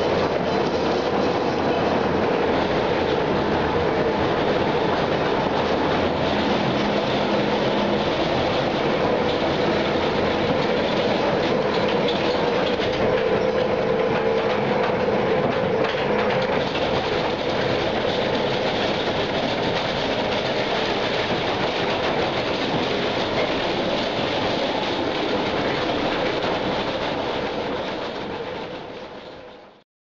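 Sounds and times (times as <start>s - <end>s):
machine hum: 0.0s - 29.6s
machine clatter: 0.0s - 29.8s.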